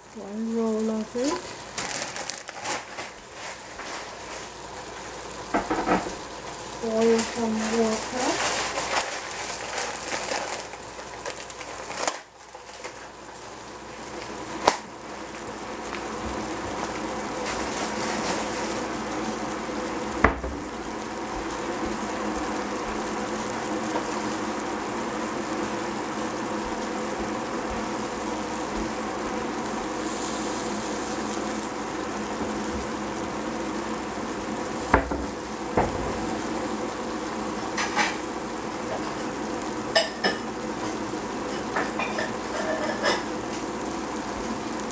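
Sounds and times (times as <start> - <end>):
water heating in pot hissing: 0.0 - 44.9.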